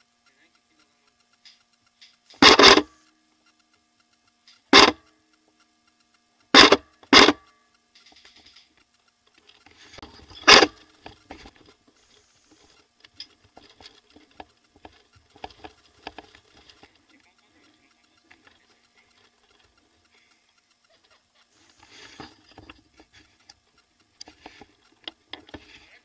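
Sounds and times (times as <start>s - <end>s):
faint clicking: 0.0s - 26.0s.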